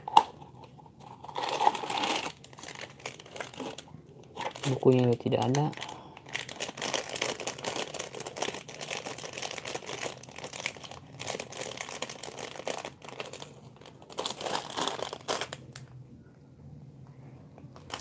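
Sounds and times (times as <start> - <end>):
plastic bag crinkling: 1.1 - 15.9, 17.8 - 18.0.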